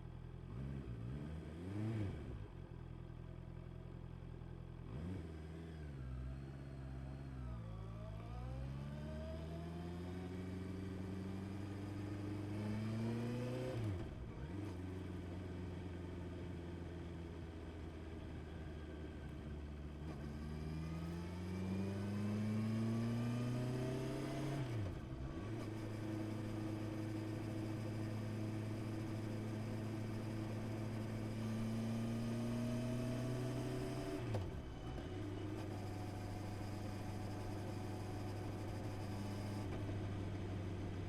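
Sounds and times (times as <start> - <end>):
motorcycle engine revving through gears: 0.5 - 2.6, 4.8 - 7.4, 8.4 - 41.0.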